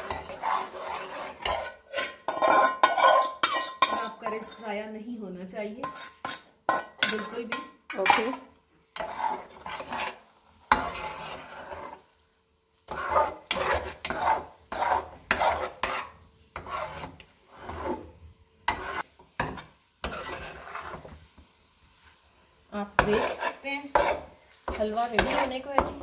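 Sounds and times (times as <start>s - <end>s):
metal spatula scraping pan: 0.0s - 4.9s, 5.8s - 12.1s, 12.9s - 21.3s, 22.8s - 26.0s.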